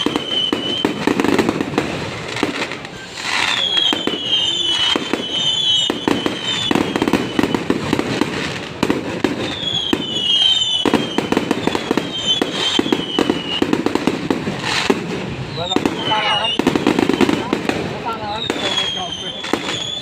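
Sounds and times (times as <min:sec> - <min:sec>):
falling firework whistles: 0:00.0 - 0:20.0
fireworks crackling pops: 0:00.0 - 0:20.0.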